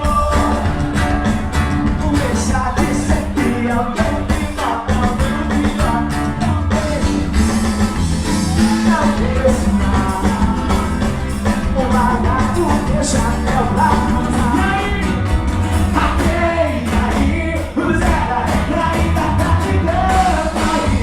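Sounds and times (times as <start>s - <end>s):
person singing: 0.0s - 7.6s, 8.2s - 21.0s
carnival band music: 0.0s - 21.0s.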